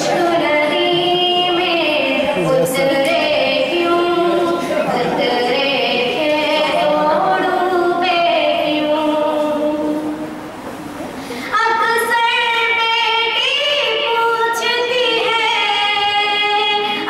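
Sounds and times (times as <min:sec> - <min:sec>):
girl singing: 0:00.0 - 0:10.2, 0:11.5 - 0:17.0.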